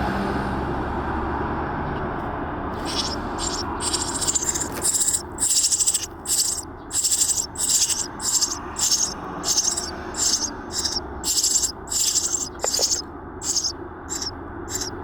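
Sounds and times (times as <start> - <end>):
nestlings begging calls: 2.8 - 15.0.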